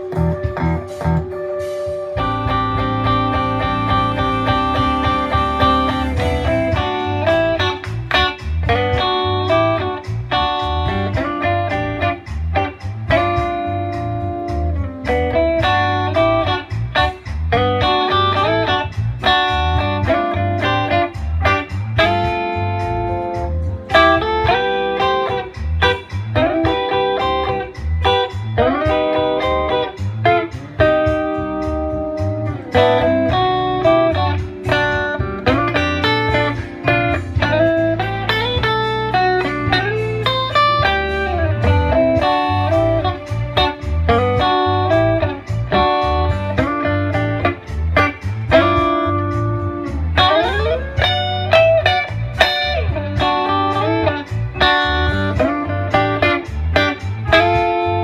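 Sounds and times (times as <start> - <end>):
electric guitar blues melody: 0.0 - 58.0
steady bass line: 0.0 - 58.0.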